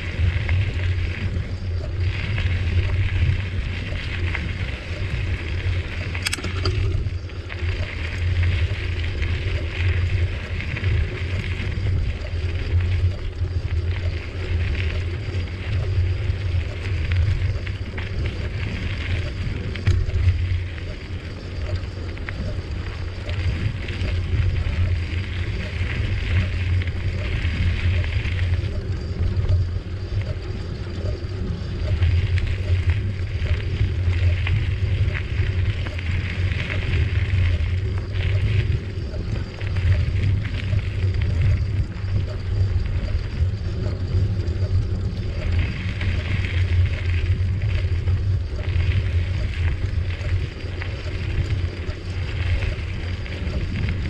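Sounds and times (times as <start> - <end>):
bicycle tyres rolling on trail: 0.0 - 54.0
wind buffeting microphone: 0.0 - 54.0.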